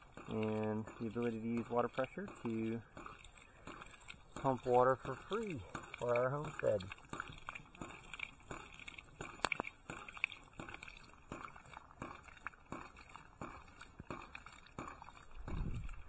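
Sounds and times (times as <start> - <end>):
water splashing: 0.0 - 16.0.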